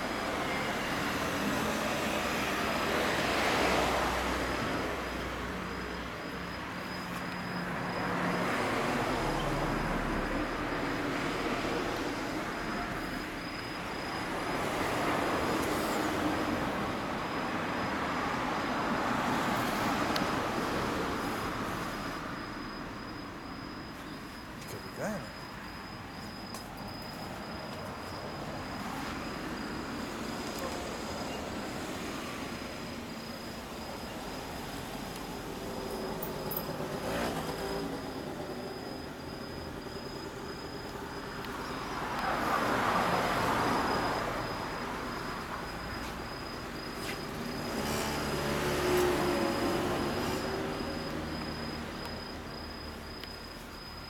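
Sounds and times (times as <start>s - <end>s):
high-pitched insect trill: 0.0s - 54.0s
road traffic rumble: 0.0s - 54.0s.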